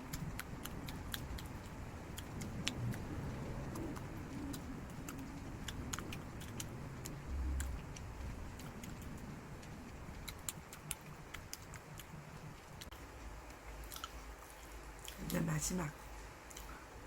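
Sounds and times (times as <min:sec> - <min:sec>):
chewing: 0:00.0 - 0:15.4.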